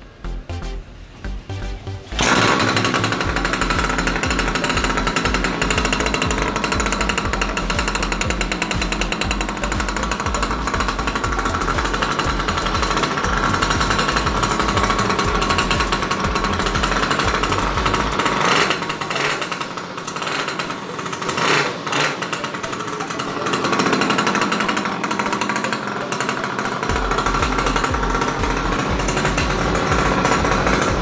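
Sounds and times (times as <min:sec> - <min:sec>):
two-stroke engine running: 0:01.3 - 0:31.0.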